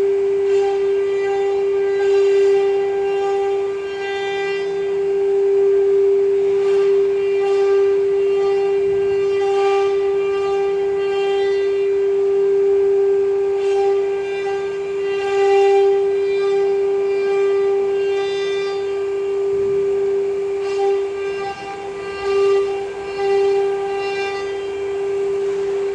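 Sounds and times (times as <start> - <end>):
router spindle whining carving wood: 0.0 - 25.9.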